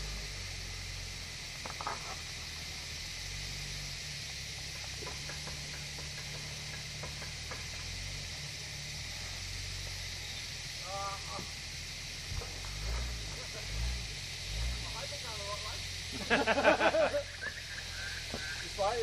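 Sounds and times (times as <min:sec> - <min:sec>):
engine low uneven rumble: 0:00.0 - 0:19.0
steady hiss: 0:00.0 - 0:19.0.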